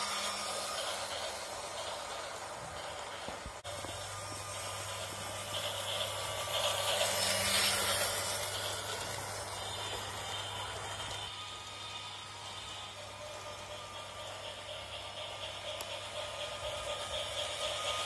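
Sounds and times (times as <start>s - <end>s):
toy train motor hum: 0.0s - 18.0s
toy train wheel rattle: 0.0s - 18.0s.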